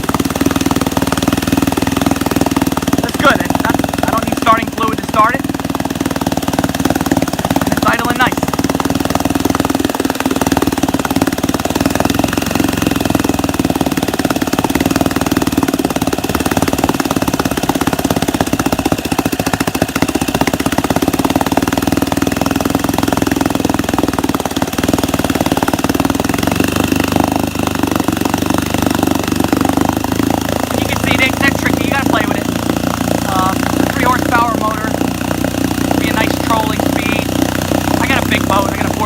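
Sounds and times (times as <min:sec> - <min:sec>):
outboard motor idling: 0:00.0 - 0:39.0.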